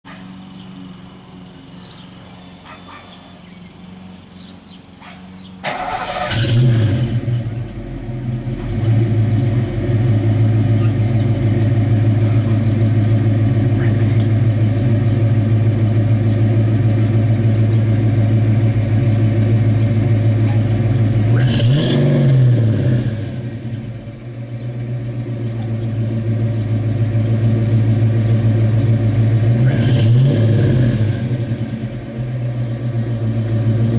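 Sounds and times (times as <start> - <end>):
car engine idling: 0.1 - 33.9
car engine revving: 0.1 - 33.9.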